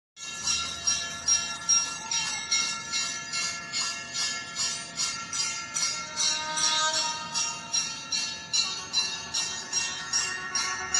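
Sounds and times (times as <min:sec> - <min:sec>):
temple bells ringing: 0:00.2 - 0:10.9.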